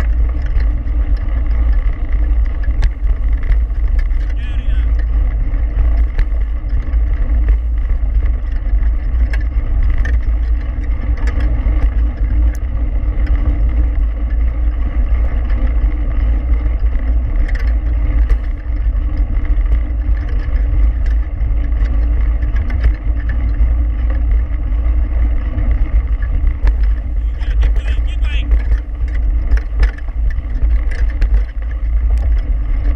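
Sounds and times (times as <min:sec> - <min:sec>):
bike clicks and rattles: 0:00.0 - 0:32.9
wind and tyre rumble: 0:00.0 - 0:32.9.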